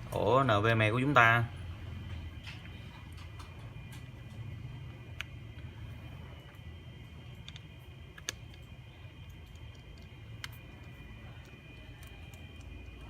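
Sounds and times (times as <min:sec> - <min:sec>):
faint hum and high whine: 0:00.0 - 0:13.0.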